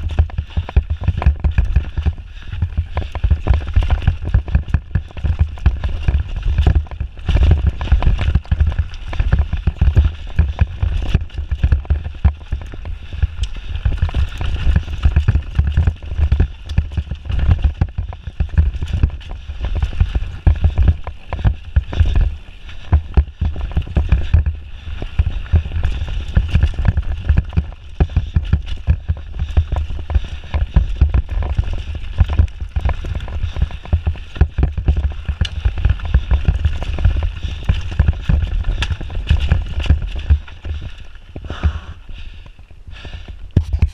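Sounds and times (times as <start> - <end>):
bike knocking and rattling: 0.0 - 43.9
bike tyres rumbling on dirt: 0.0 - 43.9.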